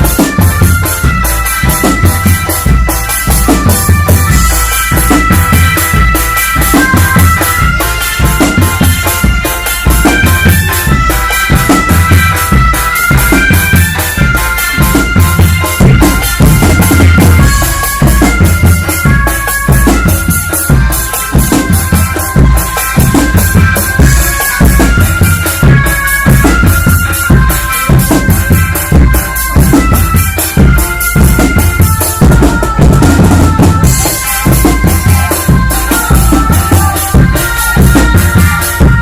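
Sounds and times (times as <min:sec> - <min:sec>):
bass and snare drums: 0:00.0 - 0:39.0
high reedy melody: 0:00.0 - 0:39.0.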